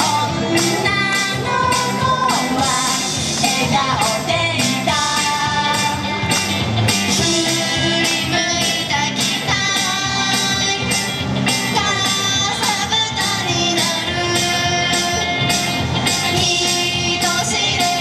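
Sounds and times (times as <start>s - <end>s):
upbeat pop song with female vocals: 0.0s - 18.0s.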